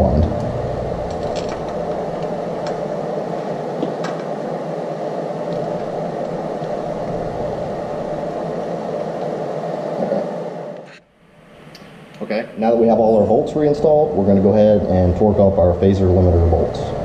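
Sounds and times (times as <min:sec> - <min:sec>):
steady whirring: 0:00.0 - 0:17.0.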